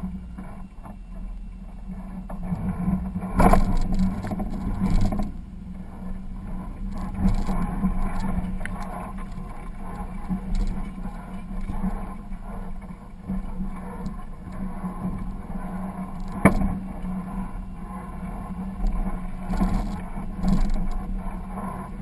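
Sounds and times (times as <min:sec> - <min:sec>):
off-road engine running: 0:00.0 - 0:22.0.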